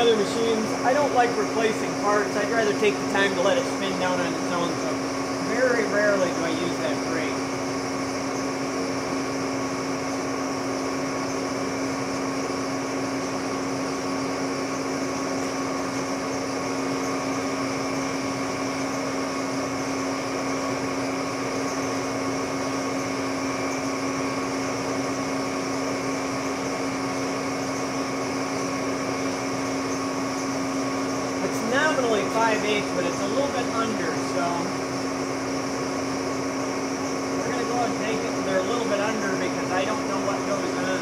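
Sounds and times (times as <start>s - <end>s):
lathe motor humming: 0.0s - 41.0s.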